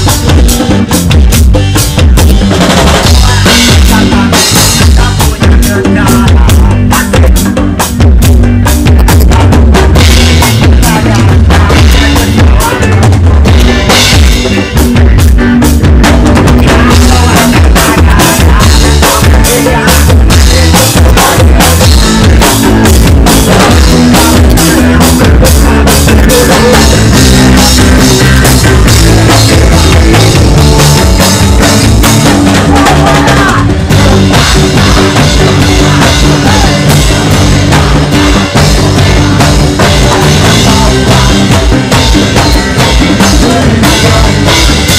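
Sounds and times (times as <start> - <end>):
reggae band playing: 0.0 - 44.9.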